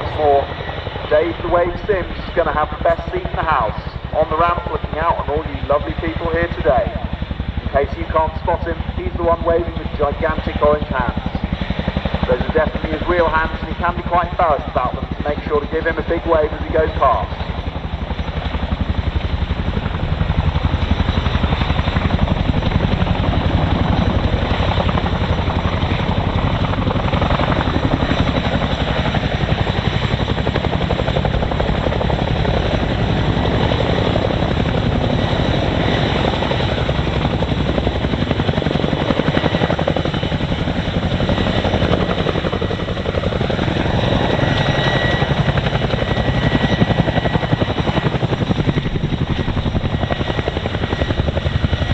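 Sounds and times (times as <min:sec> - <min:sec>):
twin-rotor helicopter roar: 0:00.0 - 0:51.9.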